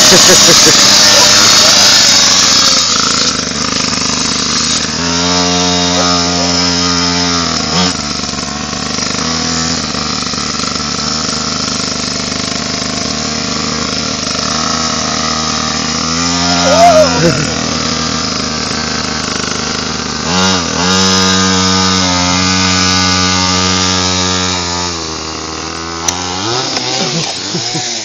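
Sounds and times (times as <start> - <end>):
small engine revving: 0.0 - 28.0.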